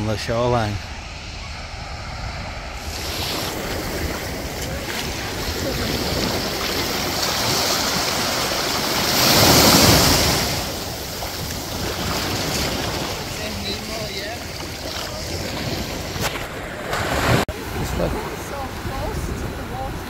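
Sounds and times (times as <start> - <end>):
small waves washing onto sand: 2.4 - 20.0.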